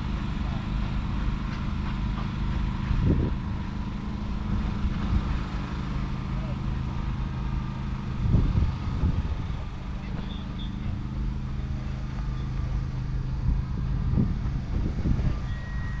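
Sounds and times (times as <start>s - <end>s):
engine idling: 0.0s - 16.0s
low engine rumbles: 0.0s - 16.0s.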